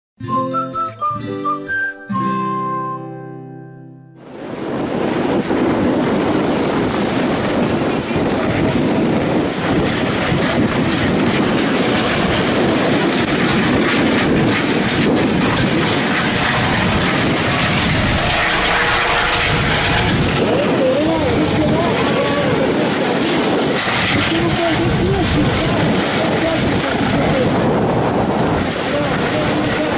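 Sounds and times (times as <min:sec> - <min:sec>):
helicopter flying over: 0:04.2 - 0:29.9
wind noise: 0:04.2 - 0:29.9.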